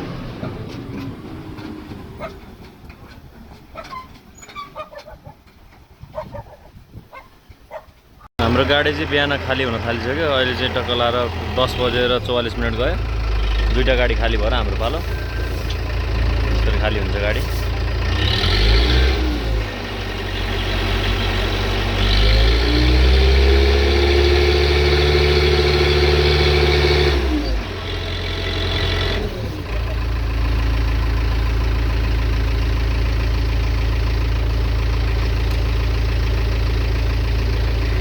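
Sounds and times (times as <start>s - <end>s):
diesel engine revving and idling: 0.0s - 4.2s, 8.4s - 38.0s.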